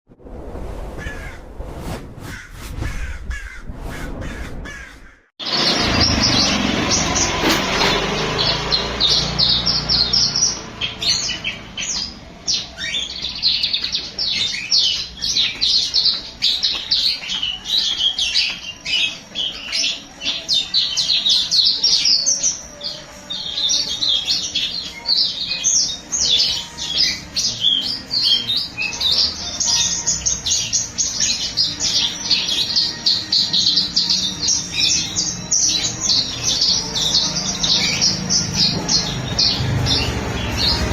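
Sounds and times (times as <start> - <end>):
songbird chattering song: 5.4 - 40.9.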